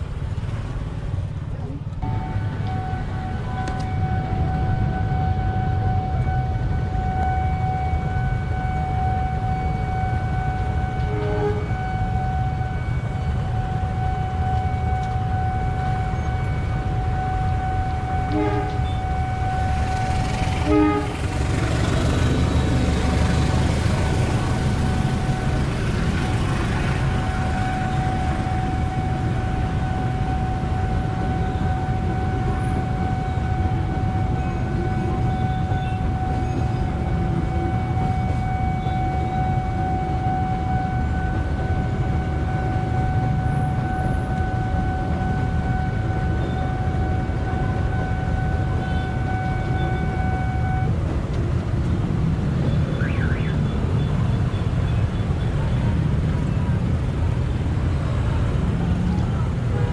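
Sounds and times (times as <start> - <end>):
train rumbling past: 0.0 - 59.9
steady high tone: 2.0 - 51.1.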